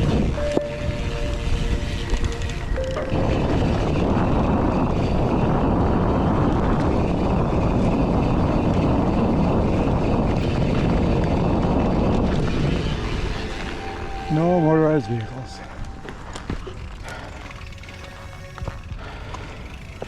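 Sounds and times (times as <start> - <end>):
wind rushing over microphone: 0.0 - 17.1
bike tyres rolling on dirt: 3.5 - 20.0.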